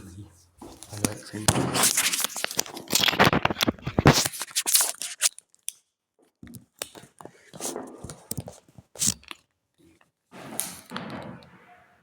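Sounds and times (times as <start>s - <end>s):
rustling and crinkling: 0.4s - 5.5s, 6.2s - 12.0s.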